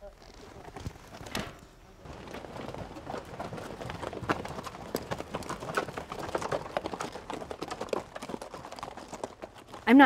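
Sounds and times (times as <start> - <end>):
horse hooves clopping: 0.2 - 10.0.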